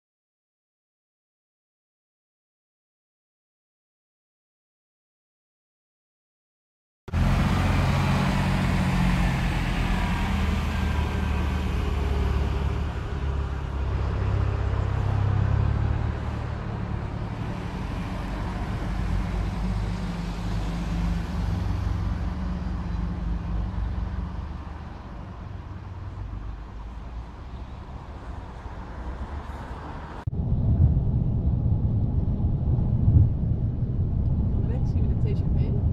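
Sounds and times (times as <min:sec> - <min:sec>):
low engine rumble: 0:07.1 - 0:35.9.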